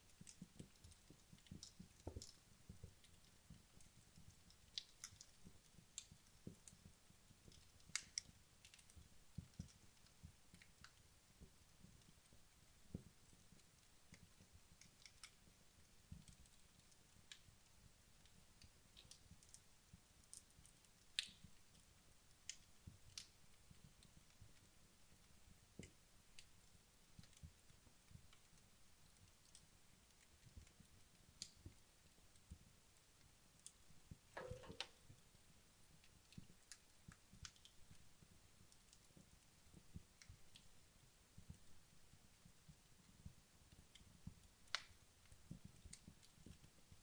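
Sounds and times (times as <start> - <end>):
wood logs crackling in fireplace: 0.0 - 47.0.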